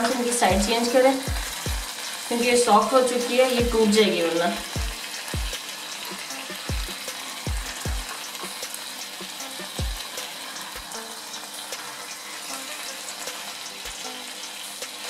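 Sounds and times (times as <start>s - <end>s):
fish sizzling on a griddle: 0.0s - 15.0s.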